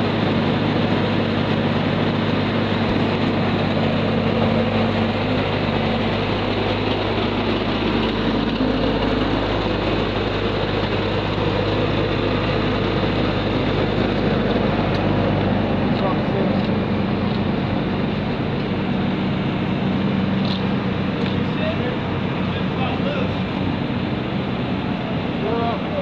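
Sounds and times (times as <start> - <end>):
forklift engine running: 0.0 - 26.0.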